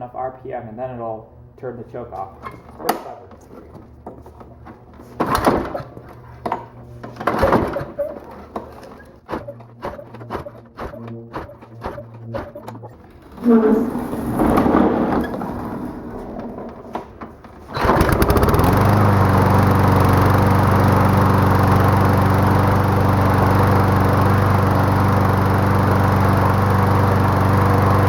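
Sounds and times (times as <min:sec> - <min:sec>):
mower engine starting and running: 0:02.2 - 0:28.0.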